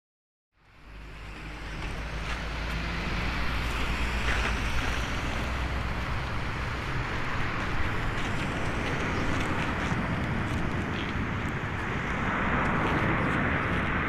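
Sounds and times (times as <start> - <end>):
jet engine rushing: 0.7 - 14.0
wind on microphone: 0.9 - 14.0.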